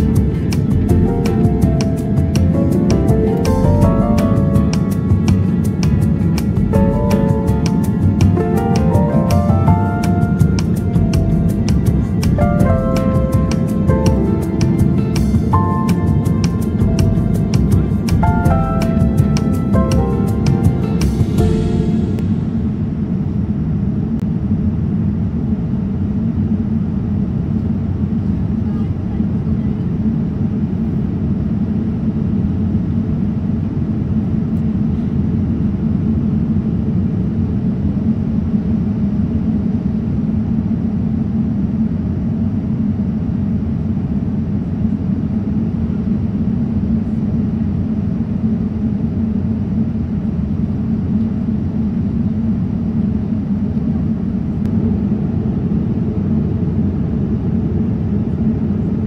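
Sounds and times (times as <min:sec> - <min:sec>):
jet airliner cabin roar: 0:00.0 - 0:59.0.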